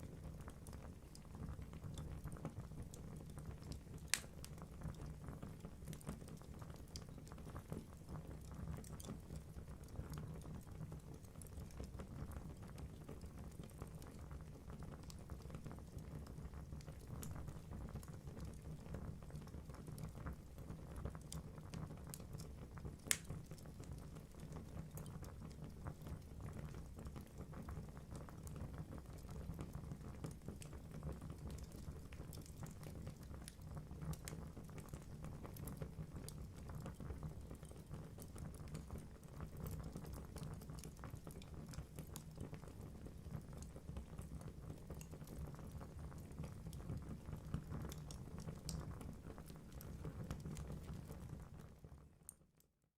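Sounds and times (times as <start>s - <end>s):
logs crackling and popping: 0.2s - 9.5s, 14.9s - 18.6s, 21.0s - 51.5s.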